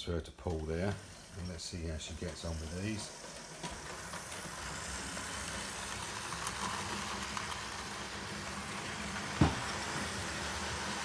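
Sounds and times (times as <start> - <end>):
model train motor humming: 0.4 - 11.0.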